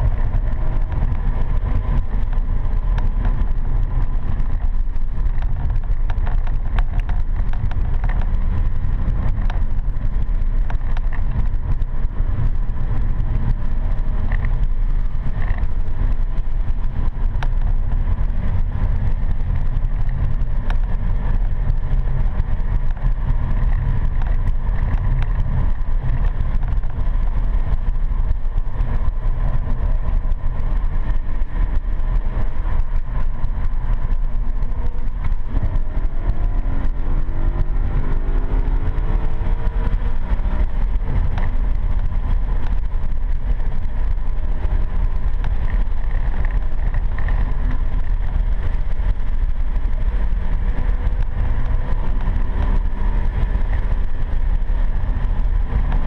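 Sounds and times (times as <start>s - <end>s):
car engine rumble: 0.0s - 56.0s
road noise: 0.0s - 56.0s.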